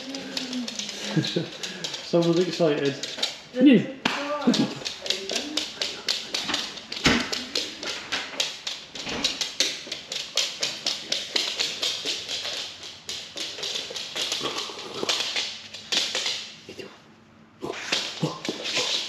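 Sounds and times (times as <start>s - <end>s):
dog claws clicking on wood floor: 0.0s - 16.7s, 17.8s - 19.0s.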